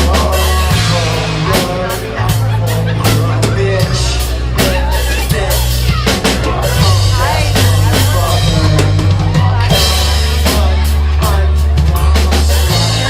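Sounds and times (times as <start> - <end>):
drum kit beat: 0.0 - 13.0
live band music: 0.0 - 13.0
low bass notes: 0.0 - 13.0.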